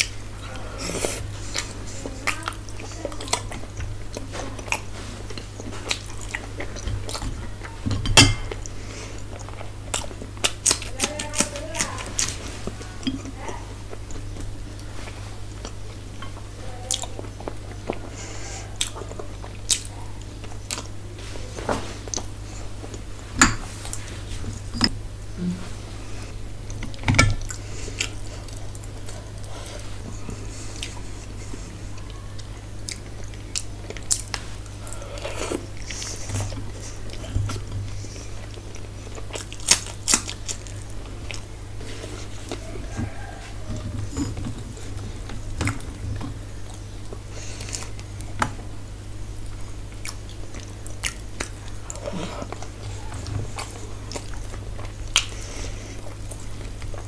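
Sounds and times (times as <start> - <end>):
person chewing food: 0.0 - 57.0
steady low hum: 0.0 - 57.0.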